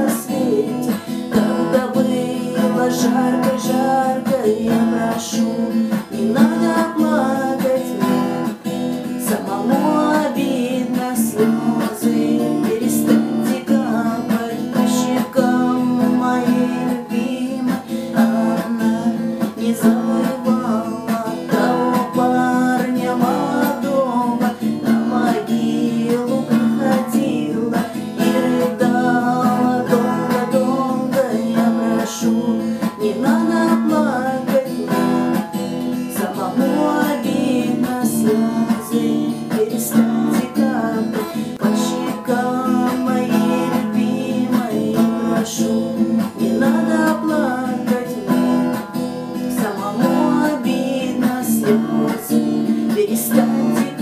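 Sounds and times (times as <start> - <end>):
acoustic guitar strumming: 0.0 - 54.0
woman singing: 0.0 - 54.0.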